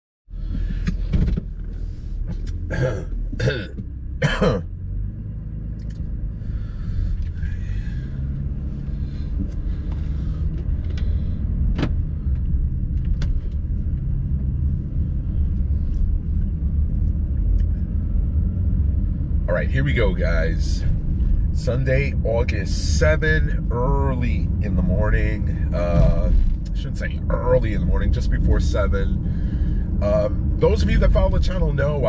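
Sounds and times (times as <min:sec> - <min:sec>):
car road and engine rumble: 0:00.3 - 0:32.0.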